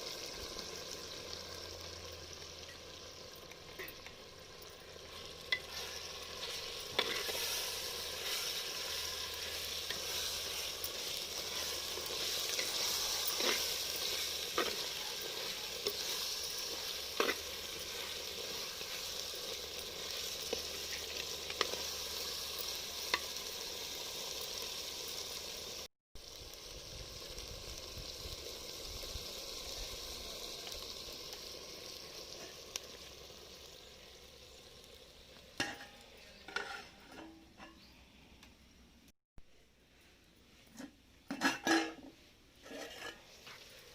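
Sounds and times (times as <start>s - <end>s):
chicken sizzling in hot oil: 0.0s - 37.9s, 40.8s - 43.9s.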